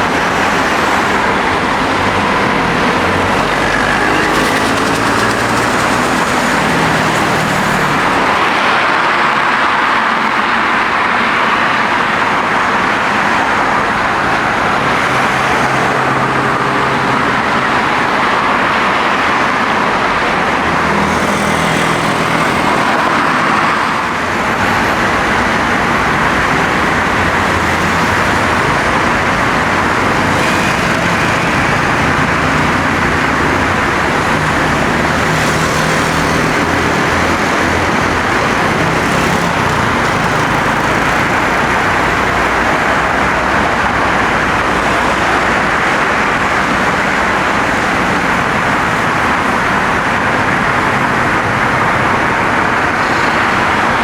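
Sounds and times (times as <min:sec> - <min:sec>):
engines roaring: 0:00.0 - 0:54.0.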